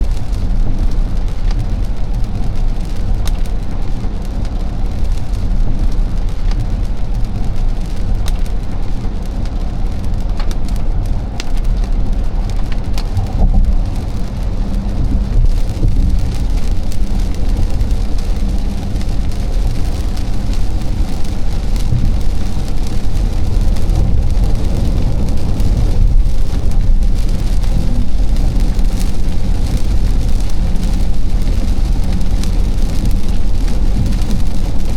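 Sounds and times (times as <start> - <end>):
raindrops pattering: 0.0 - 34.9
road rumble with tyre hiss: 0.0 - 34.9.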